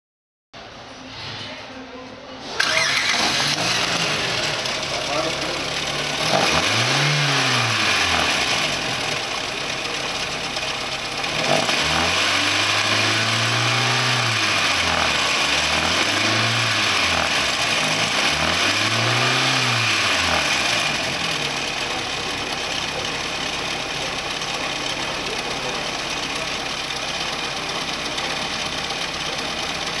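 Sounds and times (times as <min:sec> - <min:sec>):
car engine revving: 0:02.5 - 0:30.0
car engine idling: 0:02.6 - 0:30.0.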